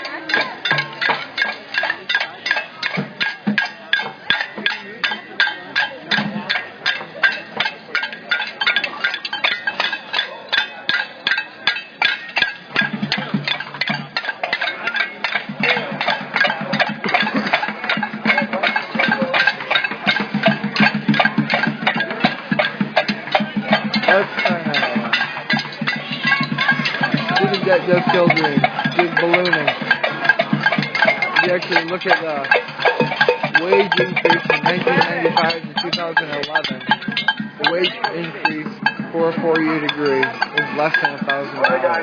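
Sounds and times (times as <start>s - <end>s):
crowd voices: 0.0s - 42.0s
noisemakers struck rhythmically: 0.0s - 42.0s.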